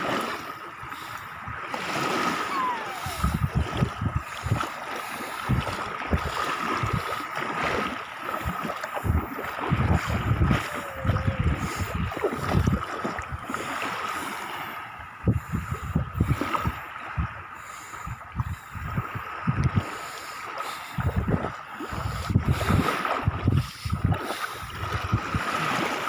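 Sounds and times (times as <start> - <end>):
small waves washing: 0.0 - 26.0
wind buffeting microphone: 0.0 - 26.0.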